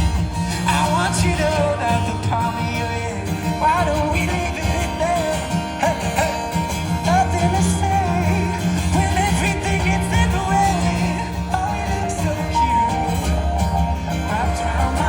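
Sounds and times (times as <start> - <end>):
live band with guitar and bass: 0.0 - 15.0
man singing: 0.0 - 15.0.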